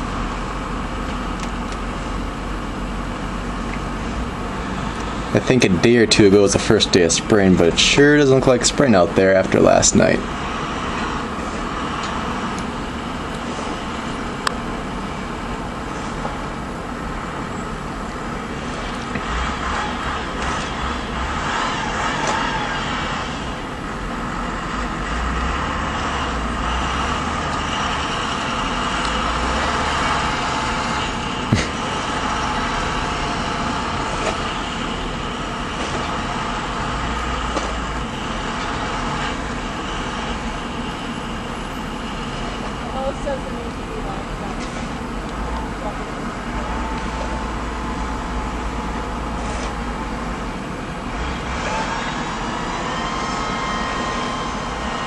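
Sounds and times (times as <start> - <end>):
heavy truck engines rumbling: 0.0 - 55.0.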